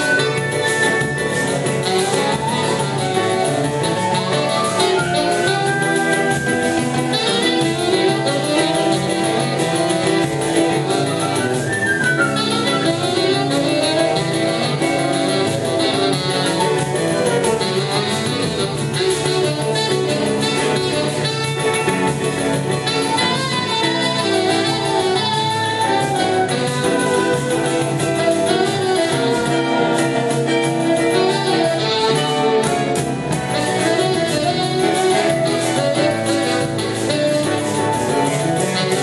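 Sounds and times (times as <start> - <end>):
flute: 0.0 - 39.0
pandeiro: 0.0 - 39.0
saxophone melody: 0.0 - 39.0.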